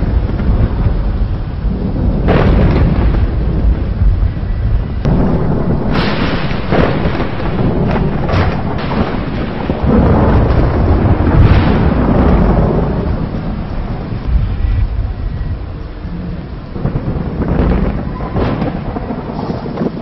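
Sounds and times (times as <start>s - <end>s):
rolling thunder rumble: 0.0s - 20.0s
thunder cracks: 0.0s - 20.0s.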